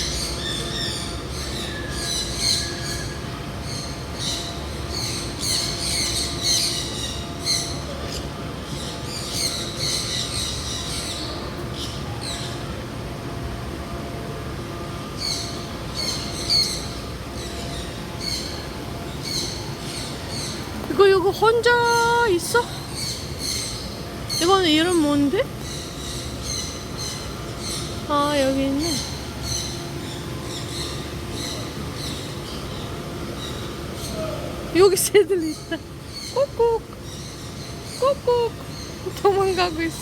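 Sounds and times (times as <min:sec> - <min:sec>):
small birds chirping and squawking: 0:00.0 - 0:13.1, 0:14.8 - 0:40.0
steady low hum: 0:00.0 - 0:40.0.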